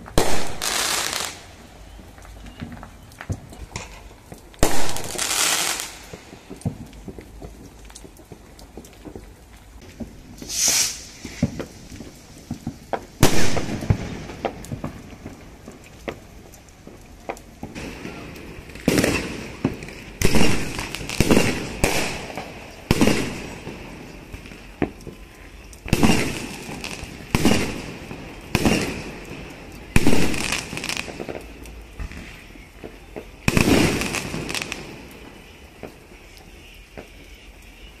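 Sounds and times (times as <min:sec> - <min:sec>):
fireworks shells bursting: 0:00.0 - 0:38.0.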